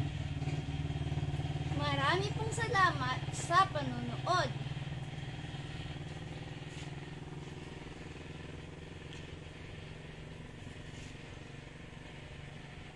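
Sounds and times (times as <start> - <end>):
small engine running: 0.0 - 12.9.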